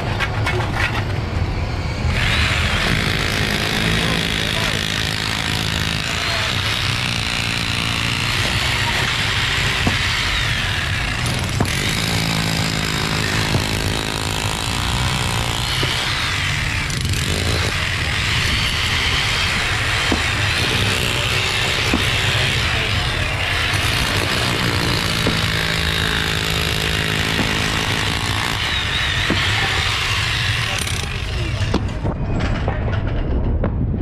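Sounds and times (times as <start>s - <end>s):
rotary hammer chiseling concrete: 2.2s - 32.0s.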